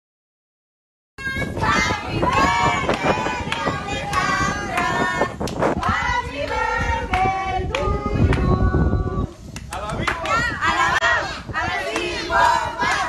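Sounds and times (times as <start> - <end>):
high-pitched voices singing: 1.2 - 9.5, 10.3 - 13.0.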